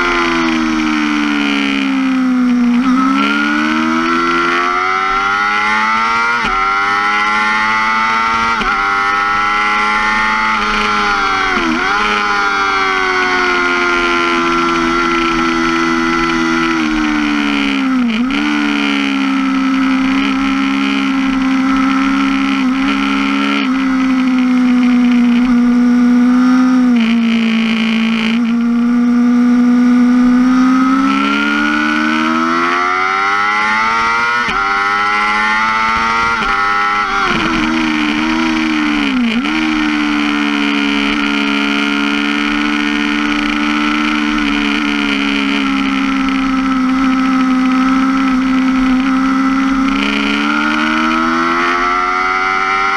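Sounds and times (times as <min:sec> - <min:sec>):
motorcycle engine at high revs: 0:00.0 - 0:52.9.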